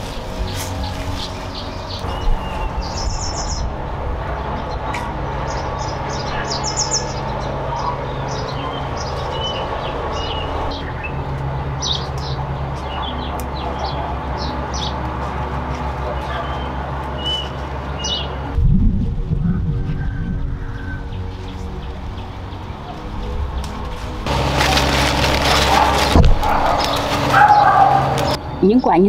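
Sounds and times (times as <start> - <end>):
birds chirping: 0.0 - 18.6, 19.9 - 29.0
steady low hum: 0.0 - 28.9.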